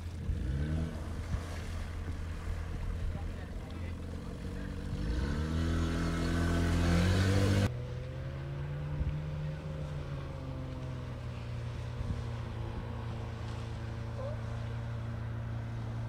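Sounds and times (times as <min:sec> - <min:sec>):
outboard motor revving: 0:00.0 - 0:16.0.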